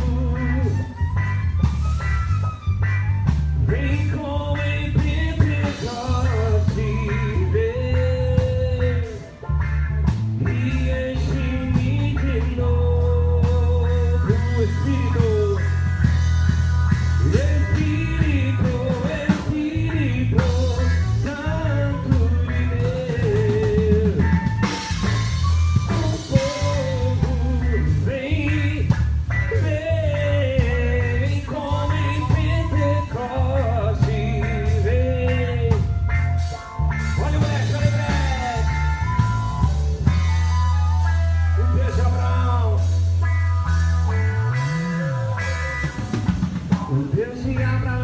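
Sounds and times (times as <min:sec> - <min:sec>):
person singing: 0:00.0 - 0:02.3, 0:03.6 - 0:09.6, 0:10.4 - 0:16.2, 0:17.2 - 0:43.0
heavy bass line: 0:00.0 - 0:48.0.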